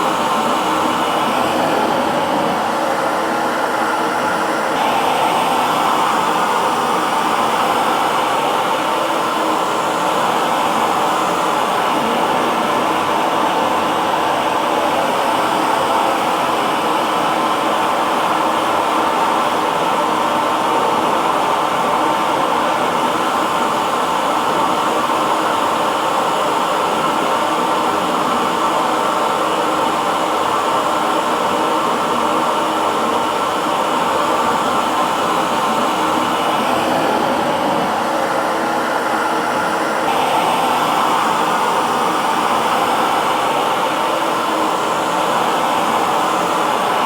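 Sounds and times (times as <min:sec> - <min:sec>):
hair dryer whirring: 0:00.0 - 0:47.0.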